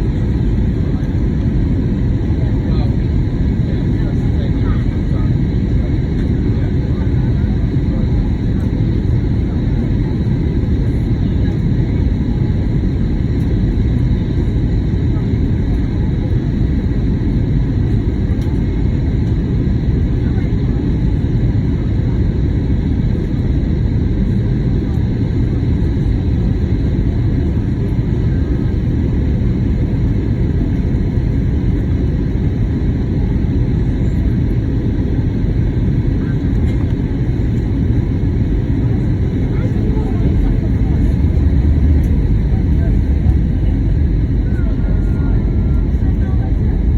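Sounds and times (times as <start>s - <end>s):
engine and airflow rumble in cabin: 0.0s - 46.9s.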